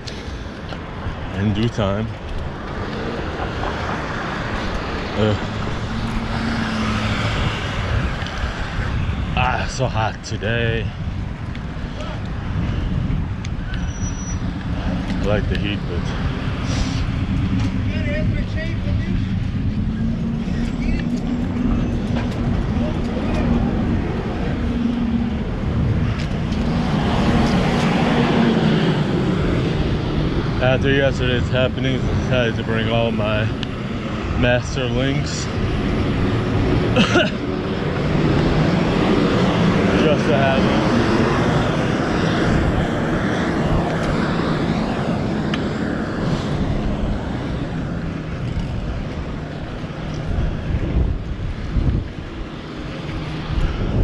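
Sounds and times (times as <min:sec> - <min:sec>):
bike tyre road noise: 0:00.0 - 0:54.0
rushing street noise: 0:00.0 - 0:54.0
traffic engine hum: 0:00.0 - 0:54.0
wind rumble on microphone: 0:00.0 - 0:54.0.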